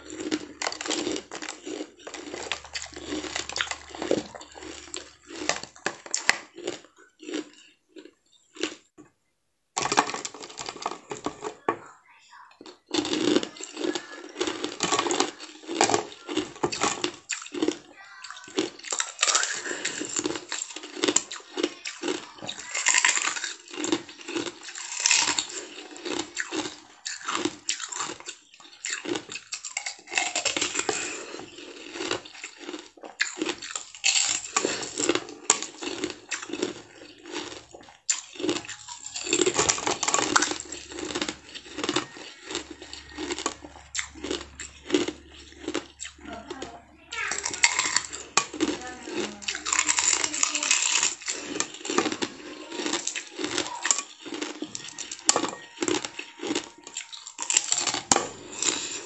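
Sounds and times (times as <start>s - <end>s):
ice being chewed: 0.0s - 9.0s, 9.8s - 59.0s.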